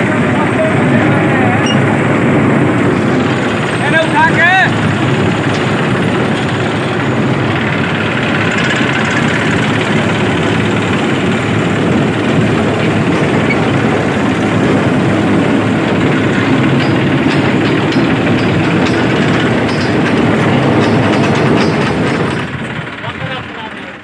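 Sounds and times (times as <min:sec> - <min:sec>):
tractor engine running under load: 0:00.0 - 0:24.0.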